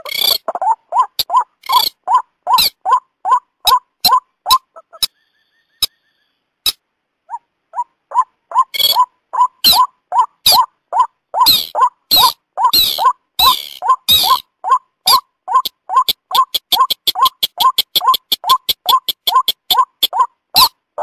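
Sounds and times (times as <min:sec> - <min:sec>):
loud full bird calls: 0:00.0 - 0:06.5, 0:07.8 - 0:20.8.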